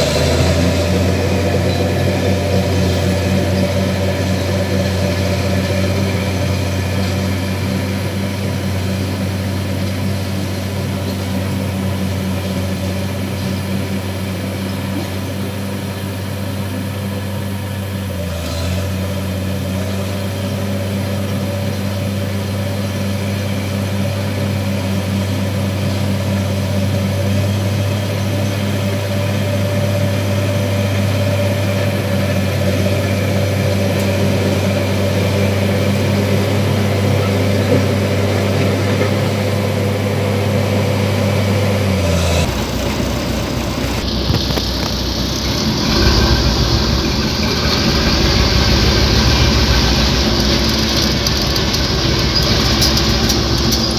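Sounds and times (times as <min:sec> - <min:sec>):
bulldozer diesel engine humming: 0:00.0 - 0:53.9
vehicle rattling on gravel road: 0:00.0 - 0:53.9.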